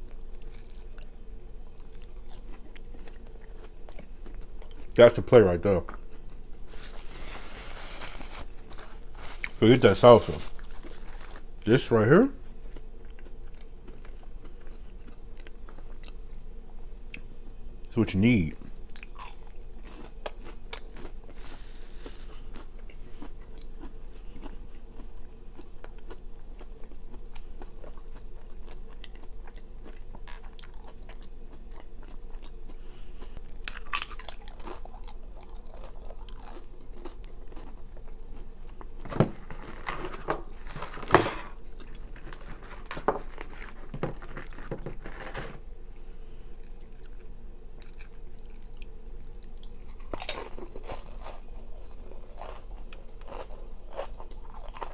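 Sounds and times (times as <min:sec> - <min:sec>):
chewing and crunching food: 0:00.0 - 0:17.3, 0:18.6 - 0:54.9
low electrical hum: 0:00.0 - 0:54.9.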